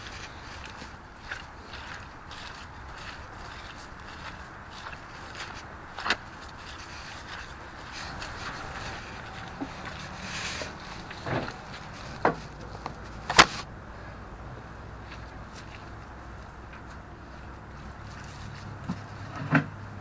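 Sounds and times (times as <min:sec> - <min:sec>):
steady rustle: 0:00.0 - 0:20.0.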